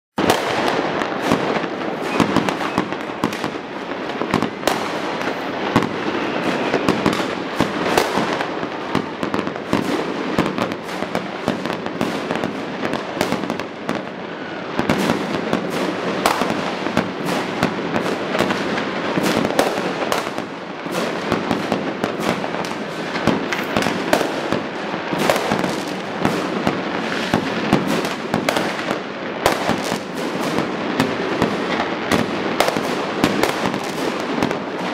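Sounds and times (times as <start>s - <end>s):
fireworks crackling and banging: 0.1s - 34.9s.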